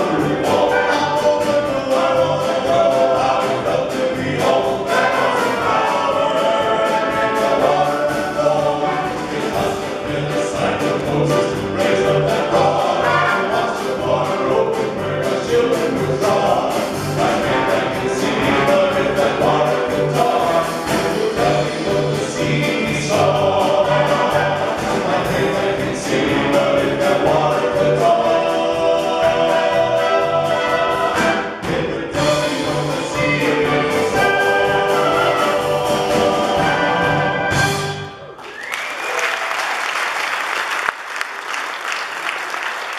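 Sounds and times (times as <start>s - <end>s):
gospel group singing in harmony: 0.0s - 38.1s
instrumental accompaniment with beat: 0.0s - 38.2s.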